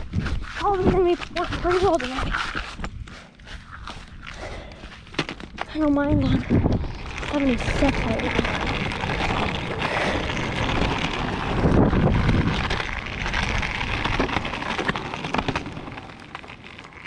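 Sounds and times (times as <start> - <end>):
wind buffeting microphone: 0.0 - 16.1.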